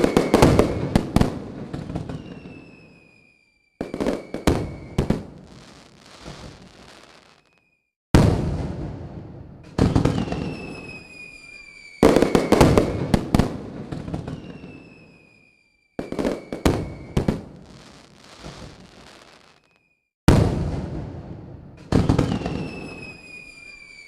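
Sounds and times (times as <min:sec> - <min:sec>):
firework cracks: 0:00.0 - 0:03.2, 0:03.8 - 0:14.6, 0:16.0 - 0:24.0
falling firework whistle: 0:00.0 - 0:08.4, 0:09.8 - 0:20.5, 0:21.8 - 0:24.0.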